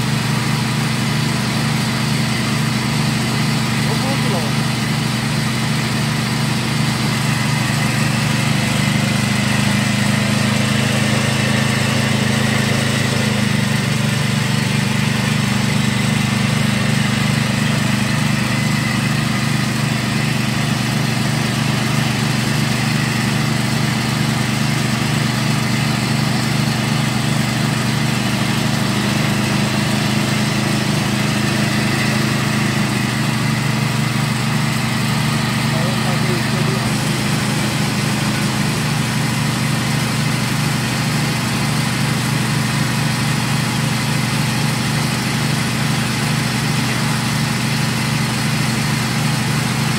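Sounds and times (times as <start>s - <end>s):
grinding machine humming: 0.0s - 49.9s.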